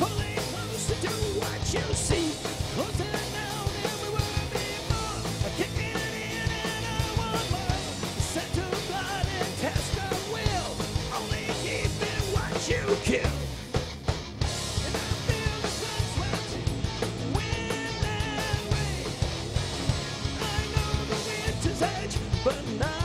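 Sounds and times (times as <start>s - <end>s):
bending lead guitar line: 0.0s - 23.0s
metal band playing: 0.0s - 23.0s.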